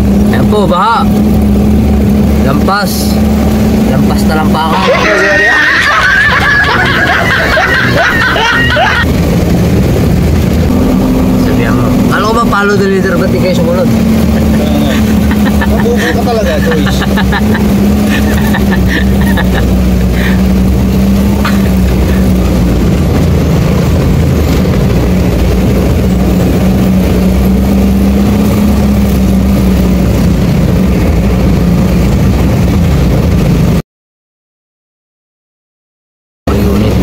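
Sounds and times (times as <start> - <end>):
truck engine droning: 0.0 - 33.8.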